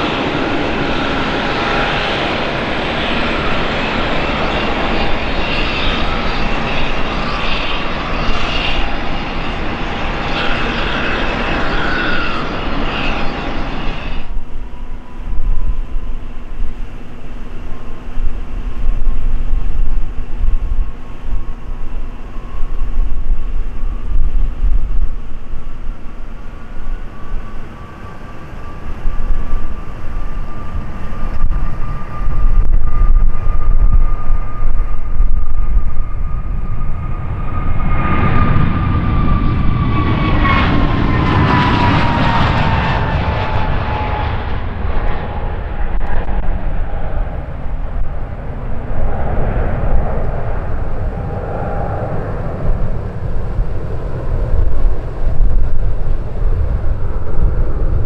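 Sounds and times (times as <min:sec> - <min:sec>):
jet engines spooling up: 0:00.0 - 0:58.0.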